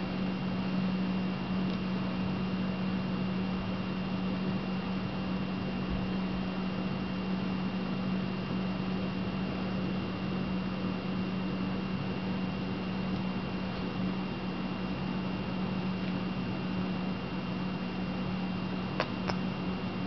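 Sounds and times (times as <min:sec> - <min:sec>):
faint high whine: 0:00.0 - 0:20.0
low hum with hiss: 0:00.0 - 0:20.0.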